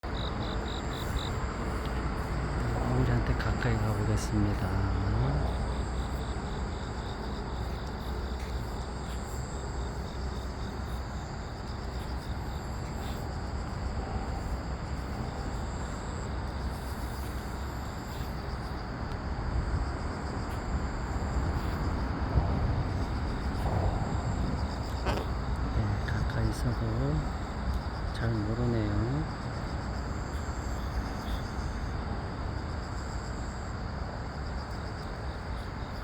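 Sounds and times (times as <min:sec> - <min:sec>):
distant traffic rumble: 0:00.0 - 0:36.0
insects chirping: 0:00.0 - 0:36.0.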